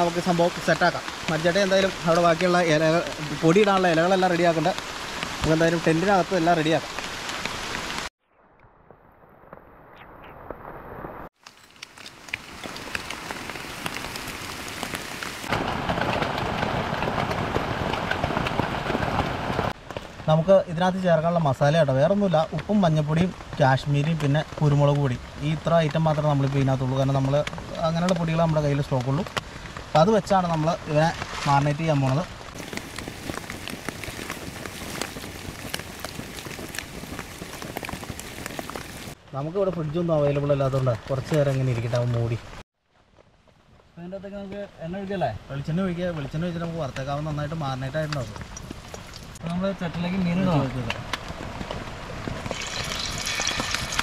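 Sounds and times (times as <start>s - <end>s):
rain on a tent: 0.0s - 8.1s, 11.1s - 54.0s.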